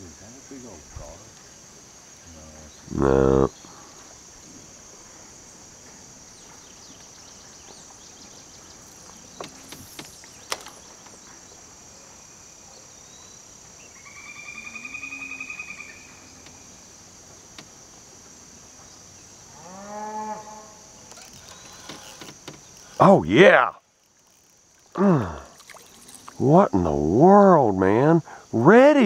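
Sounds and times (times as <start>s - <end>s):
insect chorus drone: 0.0s - 29.0s.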